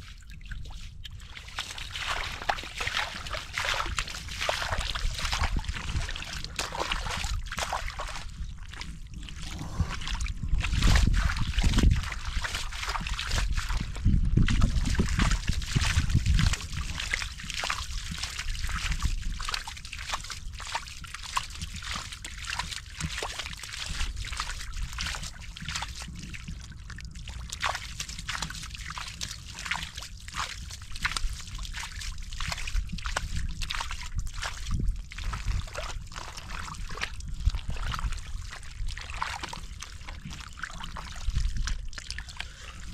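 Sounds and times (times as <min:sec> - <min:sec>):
hands sloshing through muddy water: 0:00.0 - 0:42.9.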